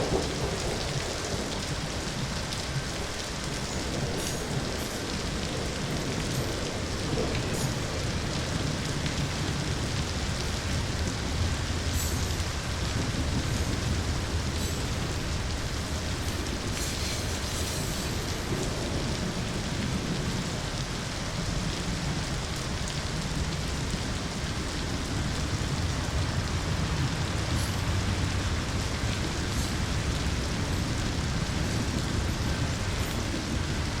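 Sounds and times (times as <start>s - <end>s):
distant thunder rumble: 0.0s - 34.0s
steady rain falling: 0.0s - 34.0s.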